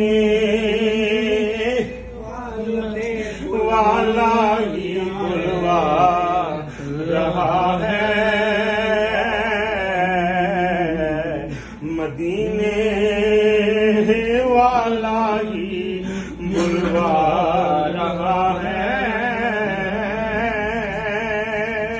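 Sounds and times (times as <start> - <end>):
men chanting: 0.0 - 21.9.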